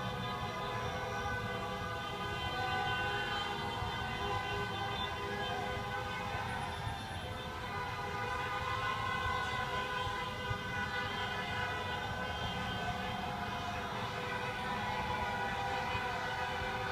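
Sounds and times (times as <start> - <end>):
many car horns blaring: 0.0 - 16.9.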